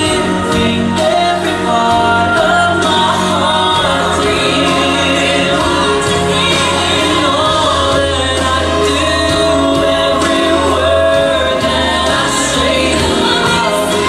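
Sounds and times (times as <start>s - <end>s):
instrumental accompaniment: 0.0s - 14.0s
voices singing worship song: 0.0s - 14.0s.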